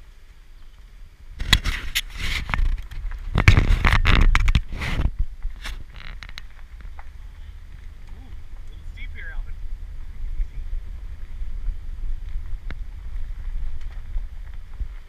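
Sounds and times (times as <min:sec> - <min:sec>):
low road rumble: 0:00.0 - 0:15.0
stones crackling: 0:00.2 - 0:15.0
tyres crunching over gravel: 0:00.6 - 0:15.0.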